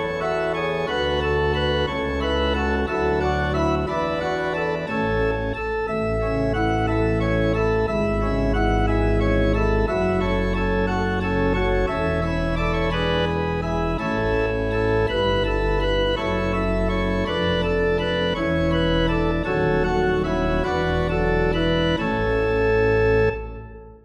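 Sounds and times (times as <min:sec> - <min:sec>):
organ playing a hymn: 0:00.0 - 0:24.0.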